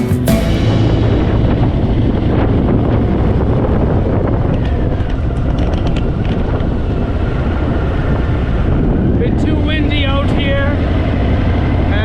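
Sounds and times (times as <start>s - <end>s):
motorcycle engine running low: 0.0s - 12.0s
wind rushing over microphone: 0.4s - 12.0s.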